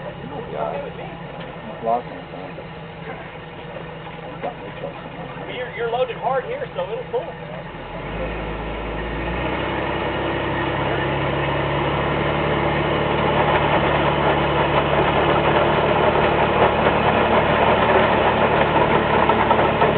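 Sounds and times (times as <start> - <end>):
off-road vehicle engine under load: 0.0 - 19.9.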